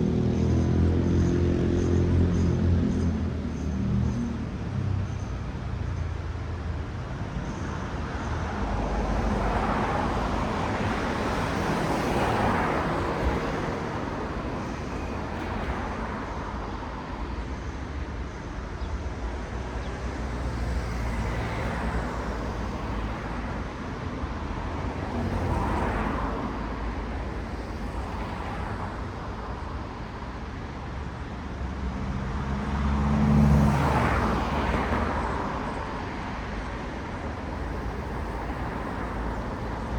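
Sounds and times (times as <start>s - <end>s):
cars passing: 0.0s - 39.9s
traffic rumble: 0.0s - 39.9s.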